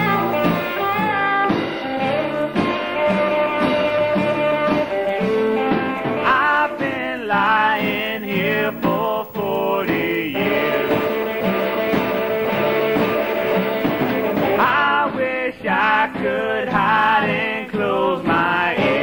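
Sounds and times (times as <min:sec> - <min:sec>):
song with singing over a band: 0:00.0 - 0:19.0.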